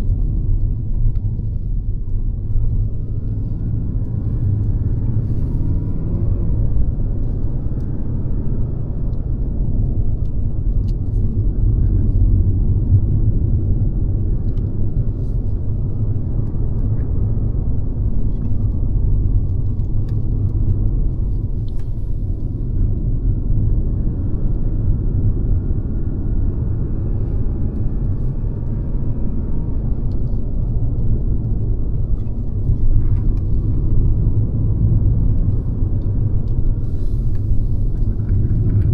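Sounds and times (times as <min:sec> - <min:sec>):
car engine rumble: 0:00.0 - 0:38.9
tyre road noise: 0:00.0 - 0:38.9.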